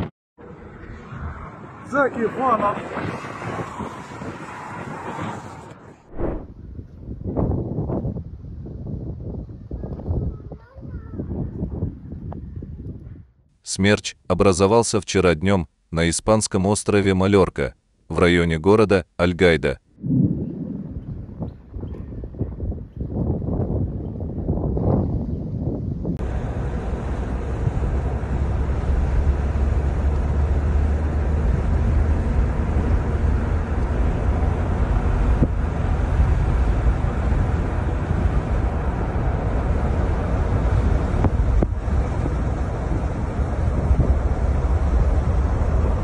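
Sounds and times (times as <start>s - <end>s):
wind buffeting microphone: 0.5s - 13.4s, 20.0s - 46.0s.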